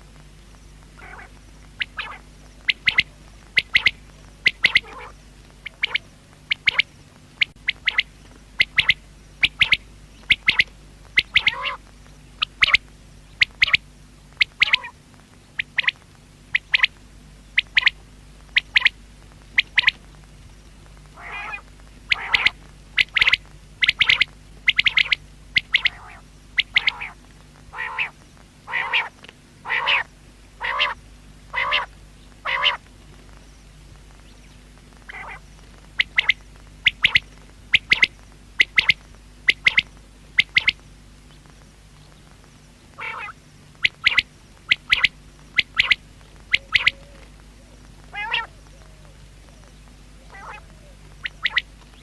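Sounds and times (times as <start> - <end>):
quail calling: 1.0 - 13.8, 14.4 - 17.0, 17.6 - 20.0, 21.1 - 32.9, 35.0 - 40.8, 42.9 - 52.0.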